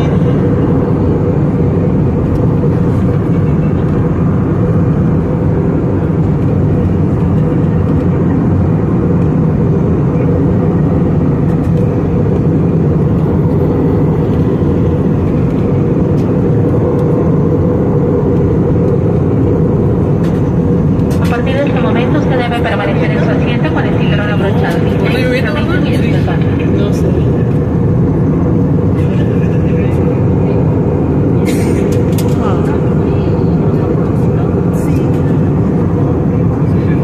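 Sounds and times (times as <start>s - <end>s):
jet cabin engine rumble: 0.0s - 37.0s.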